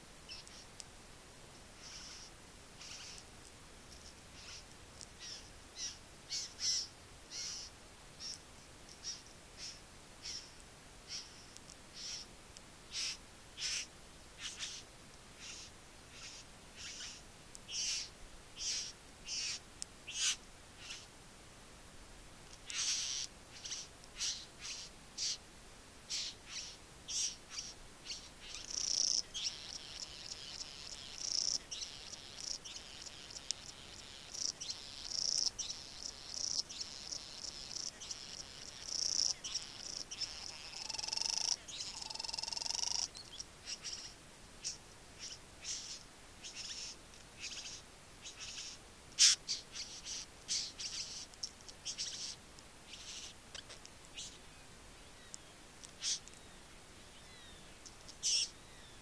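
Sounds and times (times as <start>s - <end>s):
bird chirping: 0.3s - 0.7s, 1.8s - 3.2s, 4.3s - 12.3s, 12.9s - 21.1s, 22.6s - 25.4s, 26.1s - 59.0s
buzzy chattering bird song: 1.8s - 3.2s, 4.4s - 8.4s, 9.0s - 12.3s, 12.9s - 21.1s, 22.6s - 25.4s, 26.1s - 59.0s.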